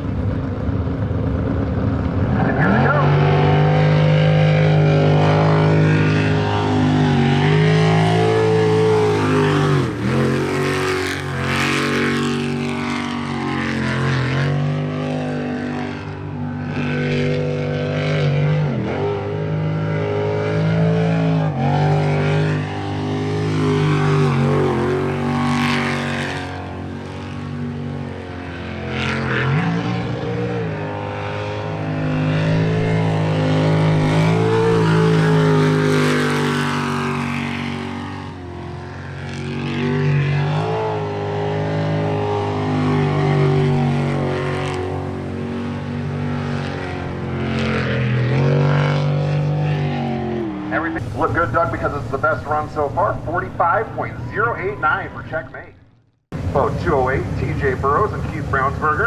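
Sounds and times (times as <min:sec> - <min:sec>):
boat engine revving: 0:00.0 - 0:59.0.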